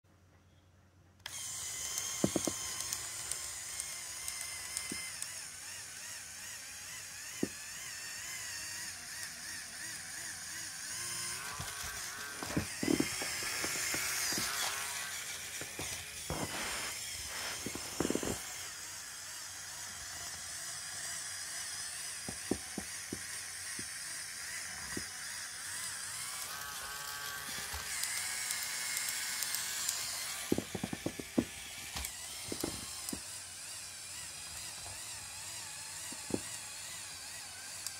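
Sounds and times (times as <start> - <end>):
electric motor whirring: 1.2 - 37.9
gears clicking and knocking: 1.3 - 37.9.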